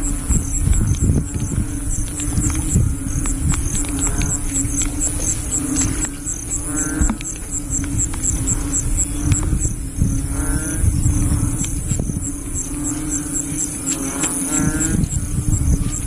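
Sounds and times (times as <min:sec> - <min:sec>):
low rumble: 0:00.0 - 0:13.9
frogs croaking in chorus: 0:00.0 - 0:16.0
insect chirping: 0:00.0 - 0:16.0.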